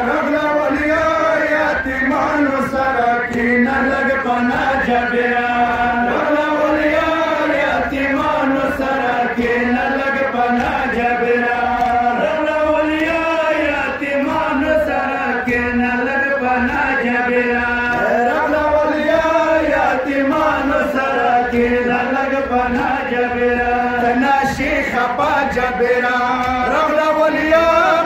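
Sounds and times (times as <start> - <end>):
male voices chanting a lament: 0.0 - 28.0.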